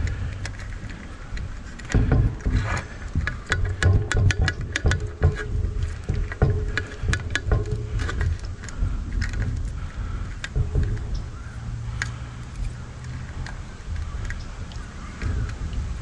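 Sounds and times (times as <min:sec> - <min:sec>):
handling clicks and taps: 0:00.0 - 0:16.0
steady low hum: 0:00.0 - 0:16.0.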